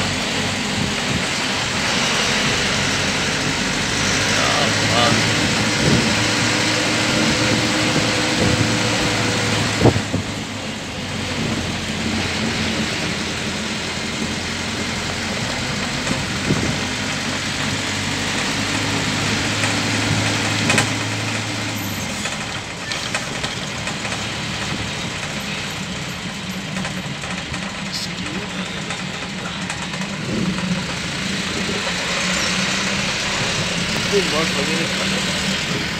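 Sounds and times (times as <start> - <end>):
road noise: 0.0 - 35.9
vehicle engine running: 0.0 - 35.9.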